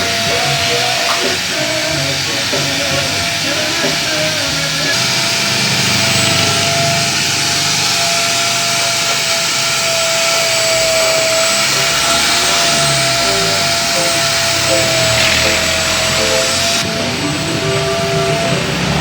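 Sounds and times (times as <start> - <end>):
car wash machine hissing: 0.0 - 19.0.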